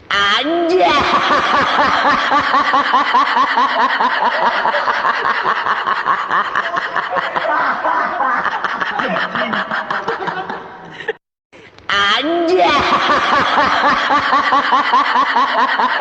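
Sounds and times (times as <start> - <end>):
person giggling: 0.1 - 11.2, 12.5 - 16.0.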